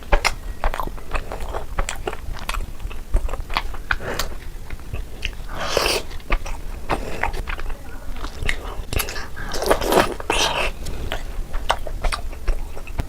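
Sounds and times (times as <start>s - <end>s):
crunchy wet chewing: 0.0s - 13.0s.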